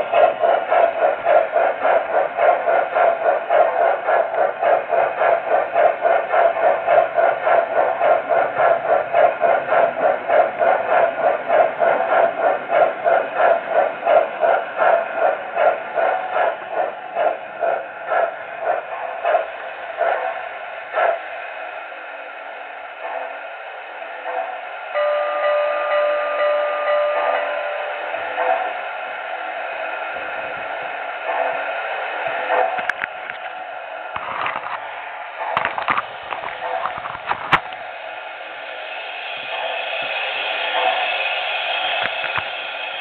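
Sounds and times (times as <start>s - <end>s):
electronic steam chuffing: 0.0s - 43.0s.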